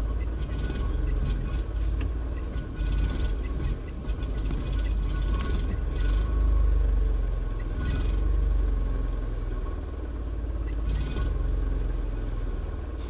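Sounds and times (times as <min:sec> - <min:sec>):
small car engine running: 0:00.0 - 0:13.0.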